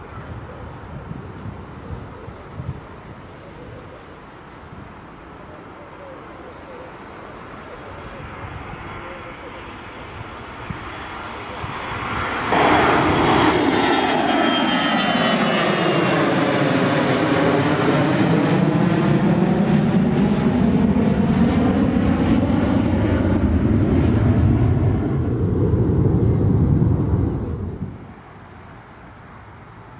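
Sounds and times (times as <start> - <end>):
airliner engines passing by: 0.0 - 29.9.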